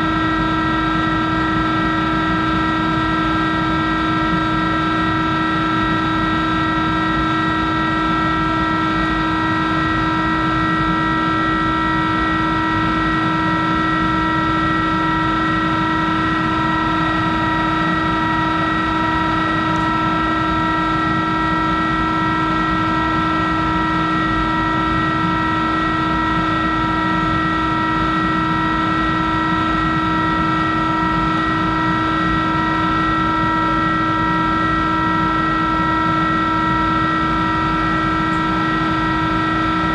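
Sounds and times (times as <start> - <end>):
lathe drive humming and whining: 0.0 - 39.9.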